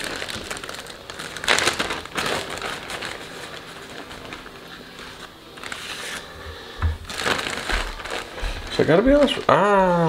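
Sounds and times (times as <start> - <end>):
plastic bag crinkling: 0.0 - 6.4, 7.0 - 9.6.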